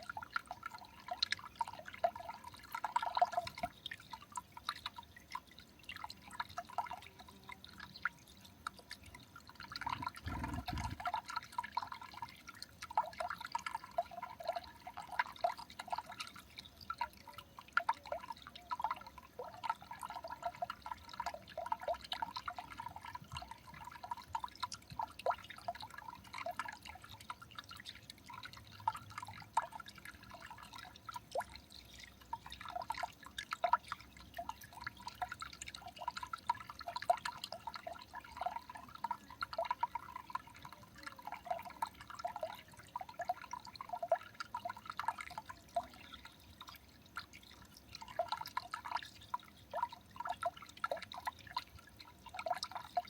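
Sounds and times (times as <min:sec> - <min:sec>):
water dripping: 0:00.0 - 0:53.0.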